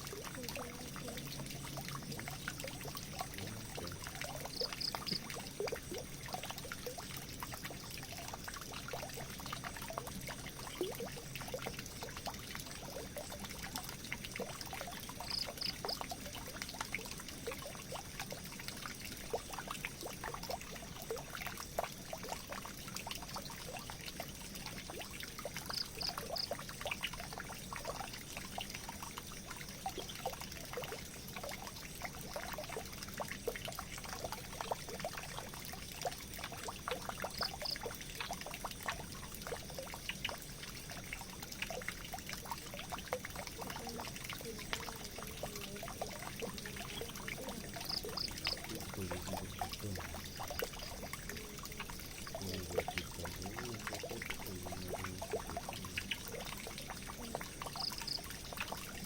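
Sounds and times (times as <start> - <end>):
water trickling into a drain: 0.0 - 59.0.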